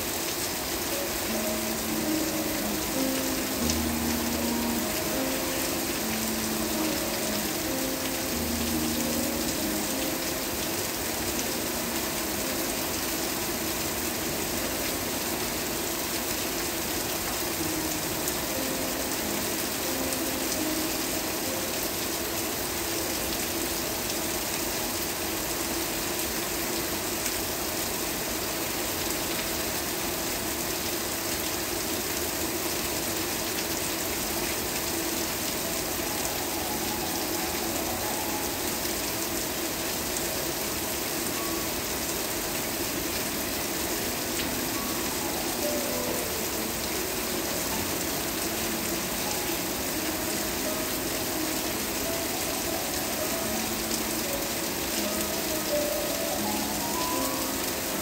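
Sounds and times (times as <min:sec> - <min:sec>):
steady rain hiss: 0:00.0 - 0:58.0
soft held musical notes: 0:00.6 - 0:24.3, 0:34.4 - 0:58.0.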